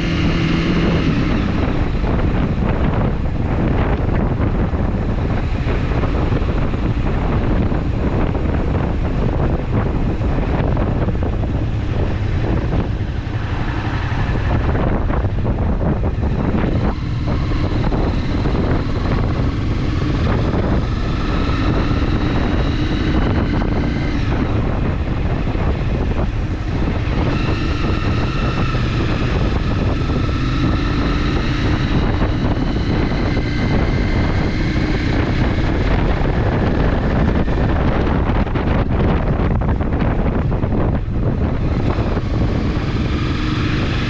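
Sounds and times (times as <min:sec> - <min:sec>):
motorcycle engine revving: 0:00.0 - 0:44.0
wind buffeting microphone: 0:00.0 - 0:44.0.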